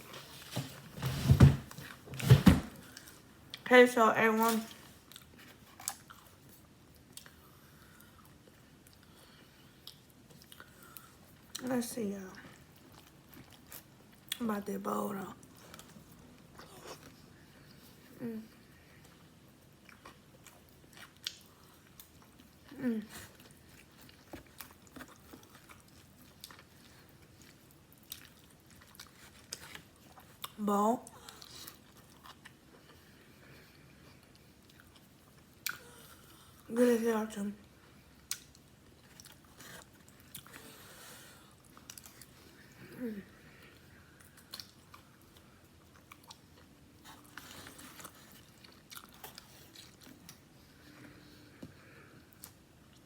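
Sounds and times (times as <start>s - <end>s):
person chewing: 4.7s - 11.6s, 12.6s - 14.4s, 15.4s - 18.0s, 19.0s - 36.7s, 37.8s - 42.8s, 43.5s - 53.0s.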